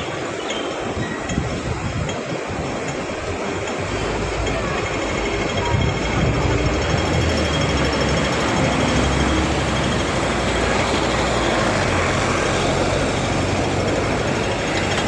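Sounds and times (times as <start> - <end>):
road noise: 0.0 - 15.0
large vehicle engine running: 2.5 - 15.0.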